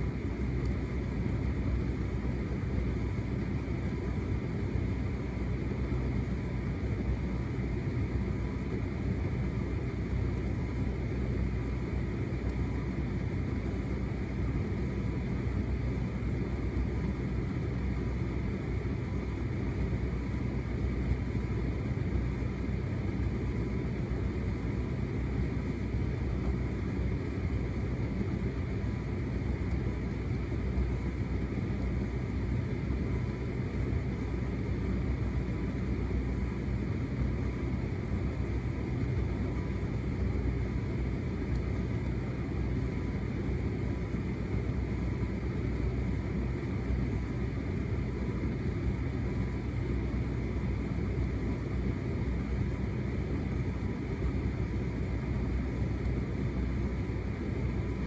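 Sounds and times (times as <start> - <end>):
tumble dryer running: 0.0 - 58.0.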